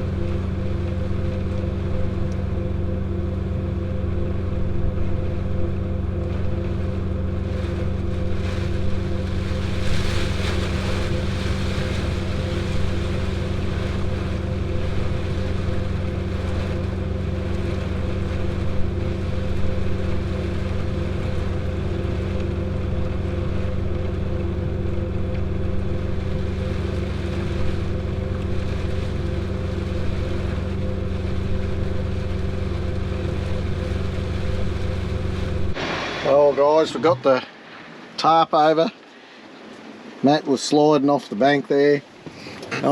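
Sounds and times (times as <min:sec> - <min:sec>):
farm machine engine droning: 0:00.0 - 0:41.0.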